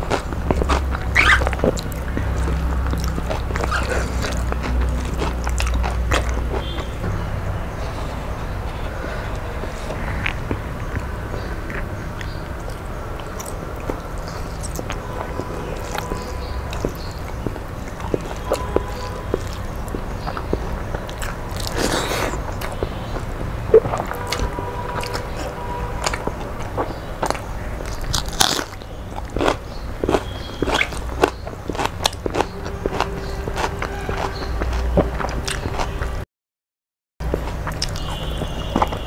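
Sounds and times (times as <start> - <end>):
mouth clicks and smacks: 0.0 - 7.1, 9.3 - 36.2, 37.2 - 39.0
wet chewing and biting: 0.0 - 7.1, 8.7 - 36.2, 37.2 - 39.0.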